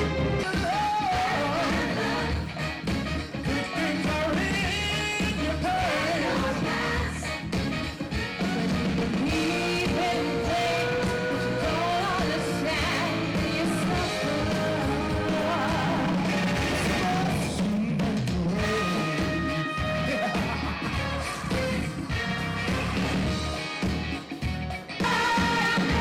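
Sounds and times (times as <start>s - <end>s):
rock music with singing: 0.0s - 26.0s.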